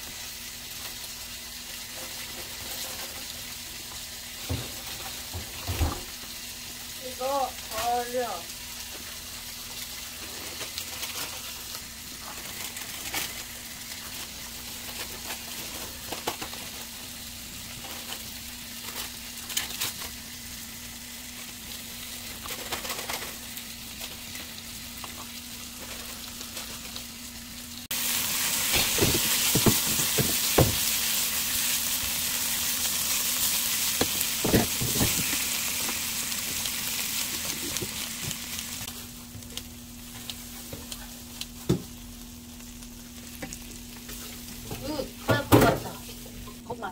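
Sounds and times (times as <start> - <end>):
meat sizzling in a pan: 0.0 - 46.9.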